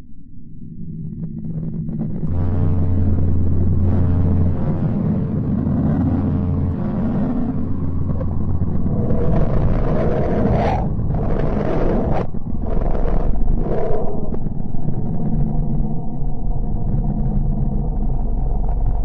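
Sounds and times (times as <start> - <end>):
deep rumbling drone: 0.0 - 19.0.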